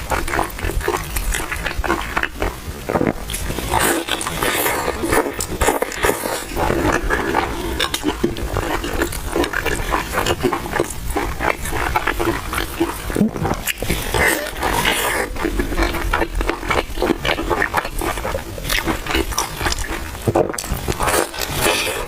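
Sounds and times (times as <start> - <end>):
crunching food: 0.0 - 22.0
wet chewing: 0.0 - 22.0.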